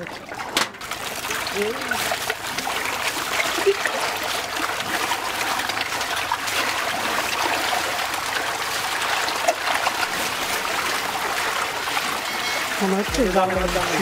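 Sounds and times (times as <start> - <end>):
fish splashing at water surface: 0.0 - 14.0.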